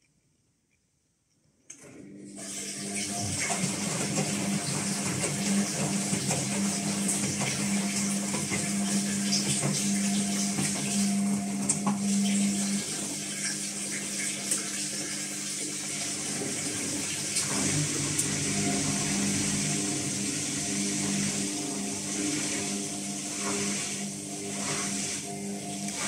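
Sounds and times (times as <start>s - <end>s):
washing machine hum: 1.7s - 26.0s
water rushing: 2.4s - 26.0s.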